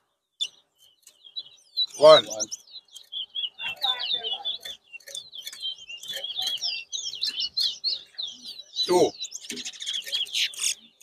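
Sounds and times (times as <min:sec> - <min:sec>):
finch singing: 0:00.0 - 0:11.0.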